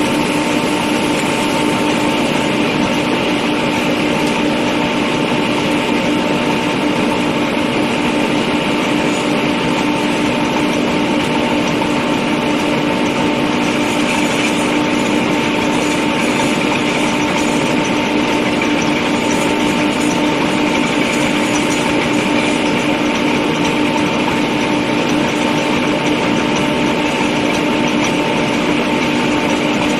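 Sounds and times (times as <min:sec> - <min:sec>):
drilling rig and compressor running: 0:00.0 - 0:29.9.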